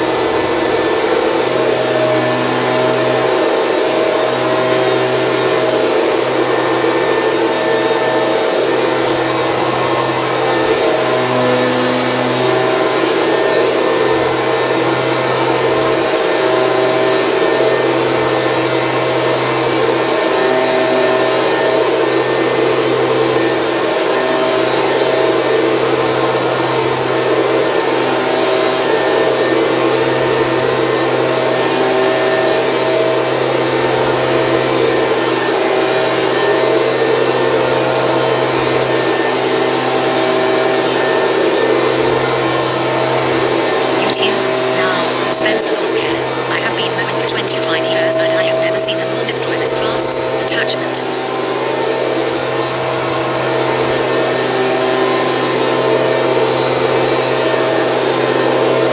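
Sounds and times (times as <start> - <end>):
leaf blower running: 0.0 - 45.3, 51.0 - 58.9.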